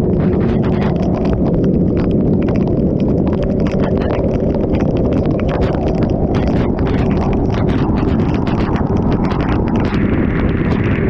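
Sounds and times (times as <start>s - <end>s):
raindrops ticking: 0.0s - 11.0s
wind rumble on microphone: 0.0s - 11.0s.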